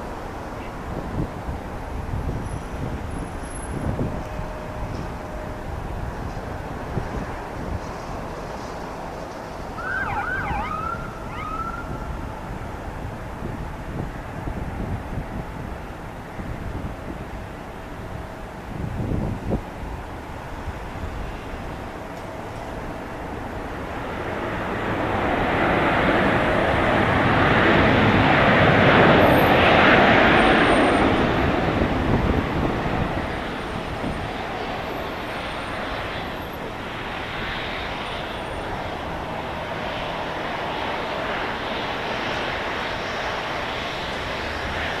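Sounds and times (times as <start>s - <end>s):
jet airliner passing: 0.0s - 45.0s.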